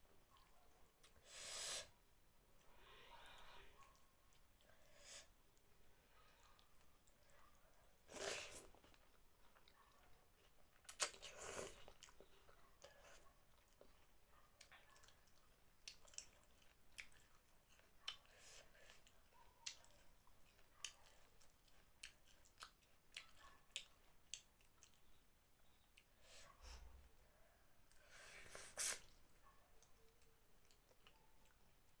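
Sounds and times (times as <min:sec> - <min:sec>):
person chewing with wet clicks: 0:03.3 - 0:04.8, 0:05.5 - 0:26.2, 0:28.6 - 0:32.0.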